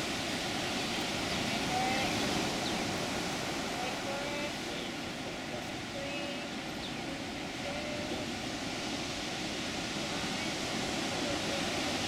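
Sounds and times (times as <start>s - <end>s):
ocean surf breaking over rocks: 0.0s - 12.0s.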